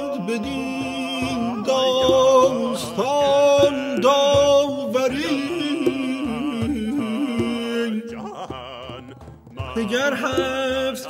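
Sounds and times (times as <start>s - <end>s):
higher voice singing with vibrato: 0.0s - 11.0s
lower voice singing: 0.0s - 11.0s.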